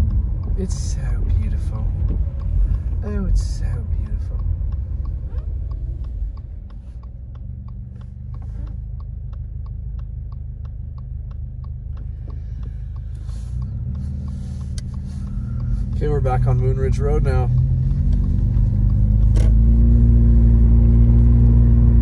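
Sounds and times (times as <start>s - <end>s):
car engine rumbling: 0.0s - 22.0s
turn signal ticking: 0.0s - 22.0s.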